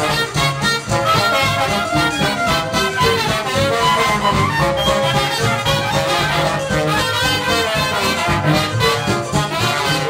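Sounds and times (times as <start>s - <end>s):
dixieland jazz band playing: 0.0s - 10.0s
trombone: 0.0s - 10.0s
trumpet: 0.0s - 10.0s.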